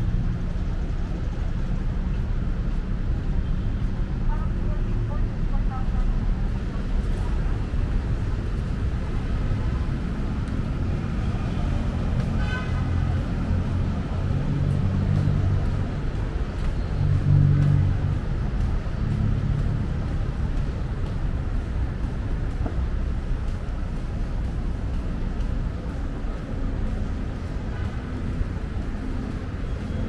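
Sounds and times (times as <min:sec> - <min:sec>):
traffic engines rumbling: 0:00.0 - 0:30.0.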